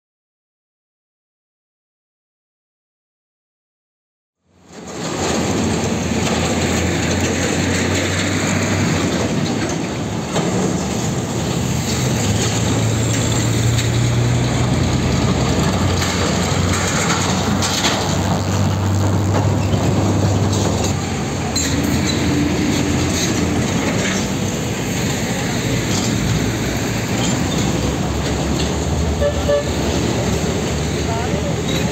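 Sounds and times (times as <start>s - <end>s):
road and traffic noise: 4.4s - 31.9s
truck engines droning: 4.5s - 31.9s.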